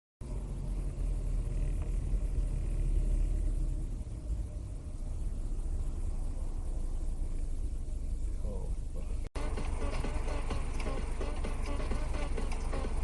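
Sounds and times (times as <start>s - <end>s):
car interior road and engine rumble: 0.2s - 13.0s.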